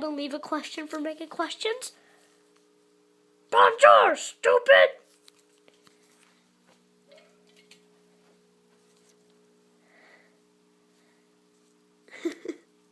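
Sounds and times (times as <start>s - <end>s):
faint electrical hum: 0.0s - 12.9s.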